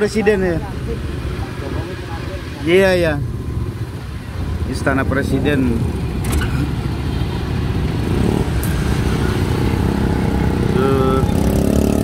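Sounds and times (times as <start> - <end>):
cars passing: 0.0 - 12.0
motorcycles passing: 0.0 - 12.0.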